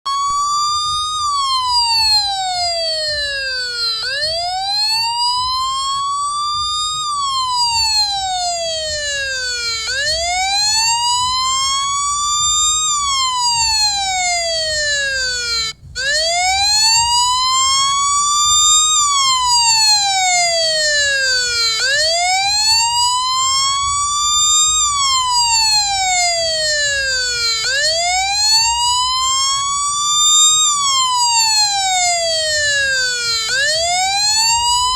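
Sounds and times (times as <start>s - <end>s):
police siren wailing: 0.1s - 34.9s.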